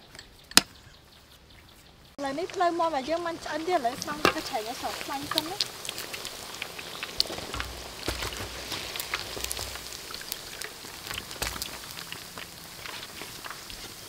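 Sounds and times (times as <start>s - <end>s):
sharp crackles and pops: 0.0s - 14.0s
oil sizzling: 2.2s - 14.0s
dull low bumps: 2.3s - 14.0s.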